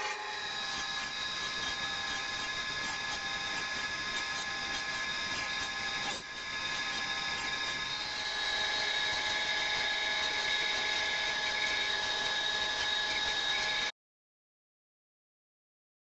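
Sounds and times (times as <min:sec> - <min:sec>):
band saw whining: 0:00.0 - 0:13.9.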